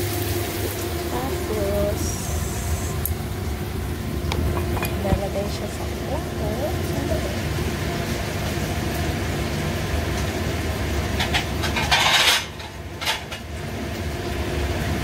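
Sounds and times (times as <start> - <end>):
range hood fan humming: 0.0 - 15.0.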